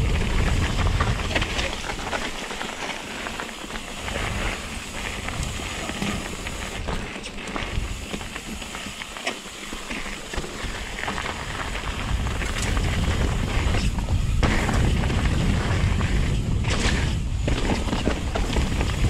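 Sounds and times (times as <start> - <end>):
wind buffeting microphone: 0.0 - 7.0, 10.6 - 19.0
bike rattling: 0.0 - 19.0
sharp clacks from rocks and chain: 0.0 - 19.0
tyres rolling over dirt and rocks: 0.0 - 19.0.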